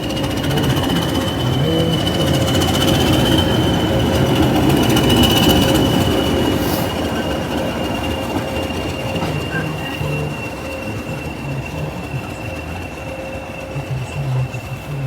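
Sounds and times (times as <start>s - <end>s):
rumble of train carriages: 0.0s - 15.0s
train wheels squealing: 0.0s - 15.0s.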